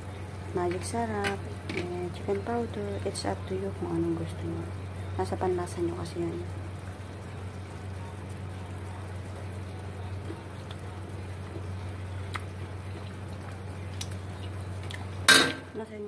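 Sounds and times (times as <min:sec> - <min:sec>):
constant low hum: 0:00.0 - 0:16.0
soft sizzle and bubbling: 0:00.0 - 0:16.0.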